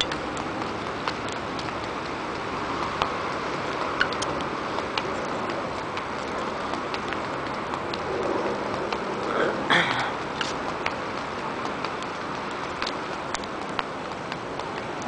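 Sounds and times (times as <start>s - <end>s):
city traffic: 0.0s - 15.0s
footsteps on stone pavement: 0.0s - 15.0s.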